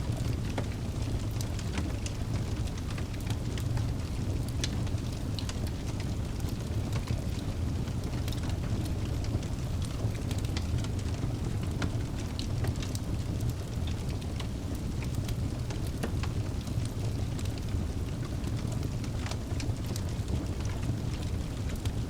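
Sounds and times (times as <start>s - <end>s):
low rumble of flames: 0.0s - 22.0s
logs crackling and popping: 0.1s - 22.0s.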